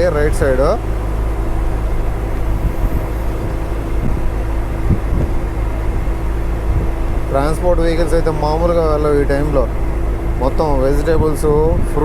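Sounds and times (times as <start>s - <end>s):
lorry engine drone: 0.0s - 12.0s
road noise: 0.0s - 12.0s.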